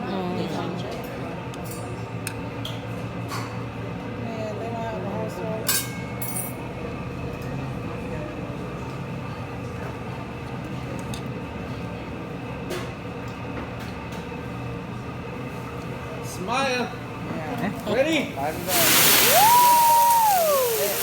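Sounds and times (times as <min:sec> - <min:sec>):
restaurant dining room rumble: 0:00.0 - 0:21.0.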